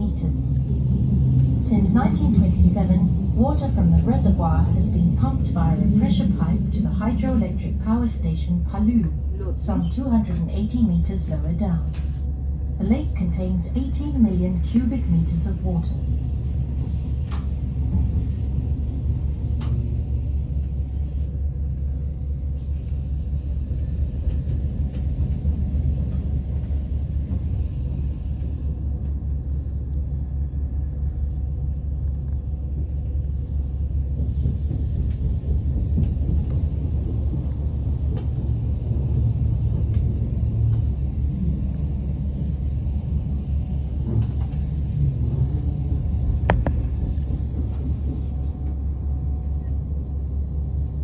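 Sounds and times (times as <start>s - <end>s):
train rumbling along track: 0.0s - 51.0s.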